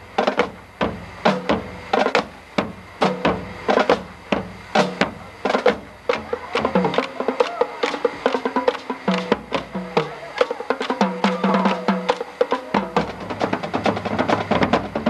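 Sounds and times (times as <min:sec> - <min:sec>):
loud drum strikes: 0:00.0 - 0:15.0
marching band playing: 0:00.0 - 0:15.0.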